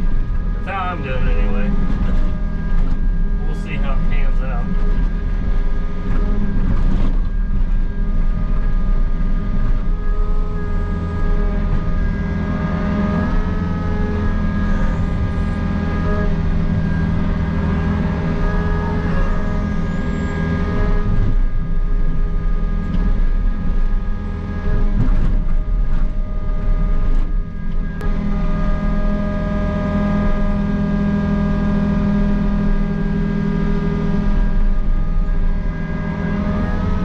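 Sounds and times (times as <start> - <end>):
excavator engine and hydraulics: 0.0 - 37.0.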